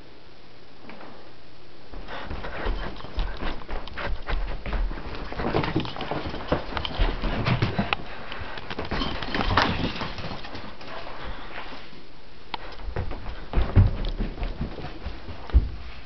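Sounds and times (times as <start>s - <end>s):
person's running footsteps: 1.9s - 11.8s, 12.6s - 16.0s
dog paws scampering: 1.9s - 12.0s, 12.6s - 16.0s.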